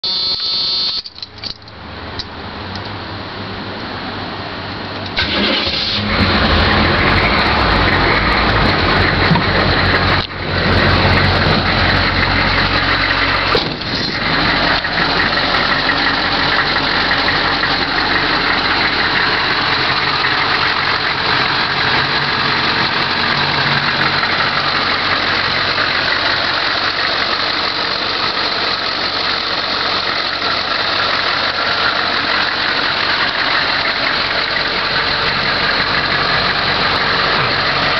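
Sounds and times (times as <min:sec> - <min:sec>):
diesel engine starting and idling: 0:00.0 - 0:37.9.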